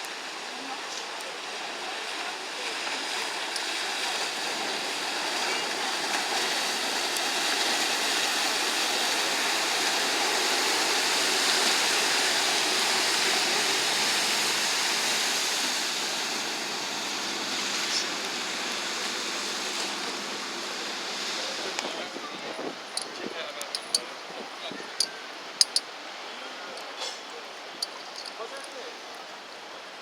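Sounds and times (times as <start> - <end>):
churned river water rushing: 0.0 - 30.0.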